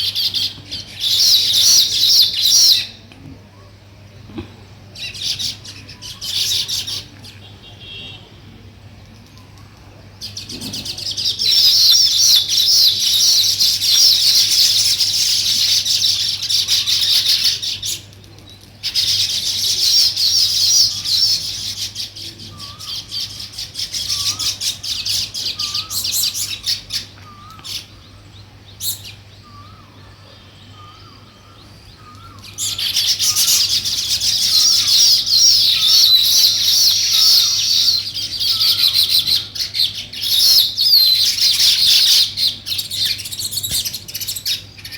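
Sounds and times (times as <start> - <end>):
songbirds chirping and chattering: 0.0 - 44.9.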